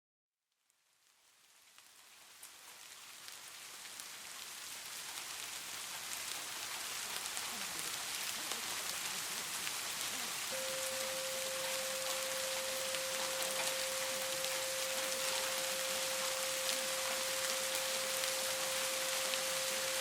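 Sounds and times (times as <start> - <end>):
rain falling: 0.8 - 20.0.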